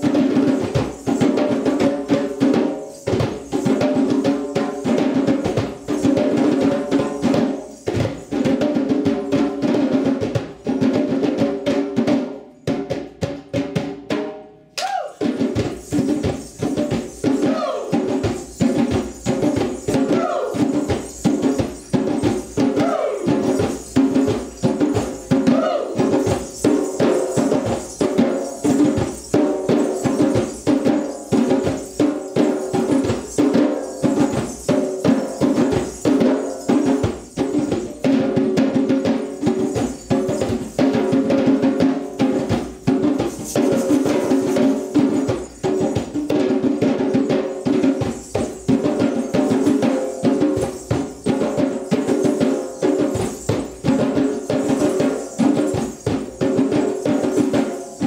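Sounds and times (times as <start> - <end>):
djembes and snare drums: 0.0 - 58.0
tambourine: 0.0 - 58.0.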